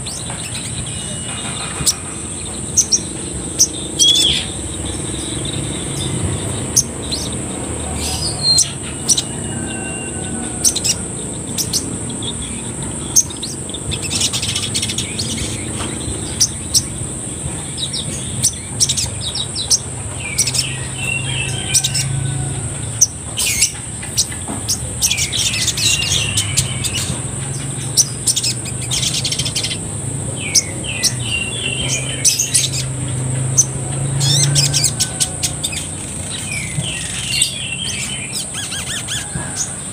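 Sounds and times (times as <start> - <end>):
sunbird chirping and twittering: 0.0 - 39.9.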